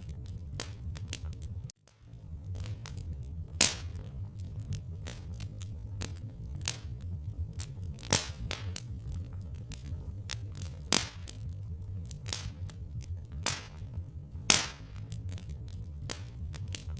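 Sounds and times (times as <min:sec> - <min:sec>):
low steady rumble: 0:00.0 - 0:16.9
wood fire crackling: 0:00.0 - 0:16.9.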